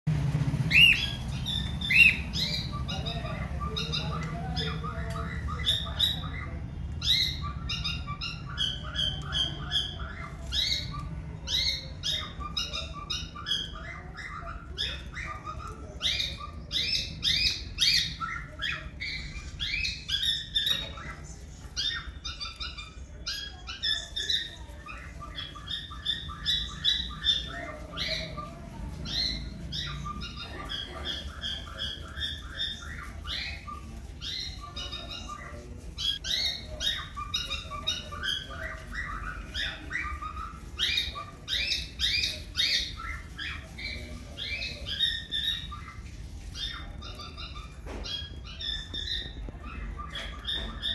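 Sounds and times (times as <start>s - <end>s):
cockatiels chirping: 0.1s - 50.9s.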